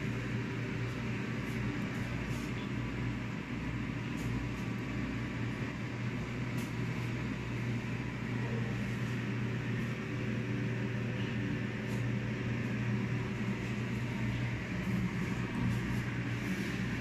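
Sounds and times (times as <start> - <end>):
appliance fan humming: 0.0 - 17.0.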